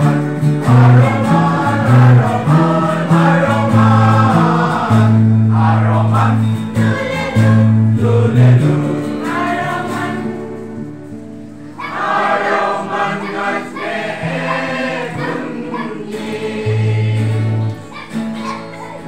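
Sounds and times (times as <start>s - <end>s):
group singing a carol: 0.0s - 18.3s.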